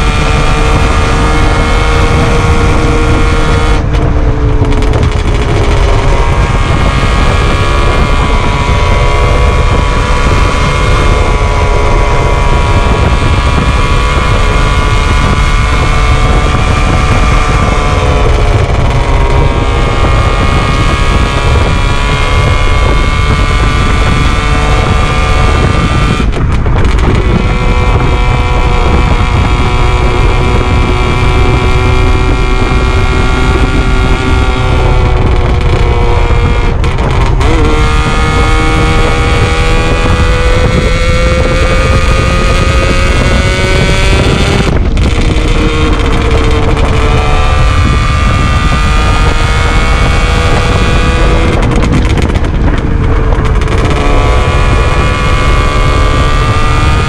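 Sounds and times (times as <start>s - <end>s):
motorcycle engine revving: 0.0s - 57.0s
wind buffeting microphone: 0.0s - 57.0s.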